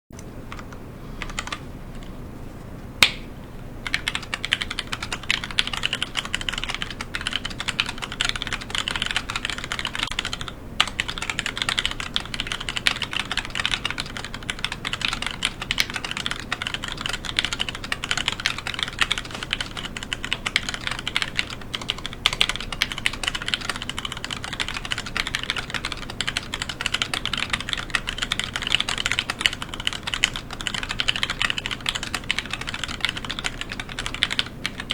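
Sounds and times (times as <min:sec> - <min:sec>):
typing on mechanical keyboard: 0:00.5 - 0:01.6, 0:03.9 - 0:34.9.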